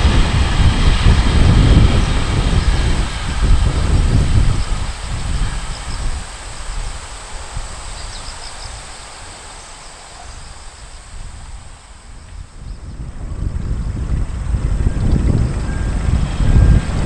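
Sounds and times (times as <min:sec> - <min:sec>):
insects chirring: 0:00.0 - 0:17.0
wind buffeting microphone: 0:00.0 - 0:17.0.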